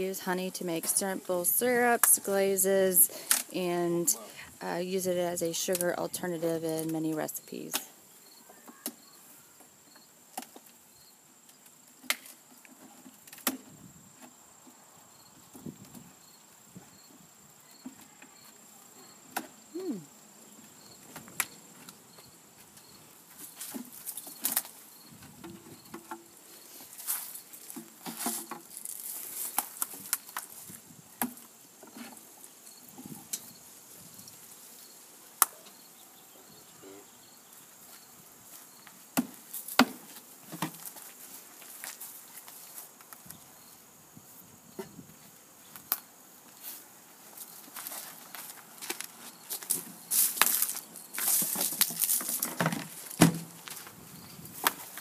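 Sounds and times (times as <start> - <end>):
insects trilling: 1.0 - 46.4, 47.0 - 55.0.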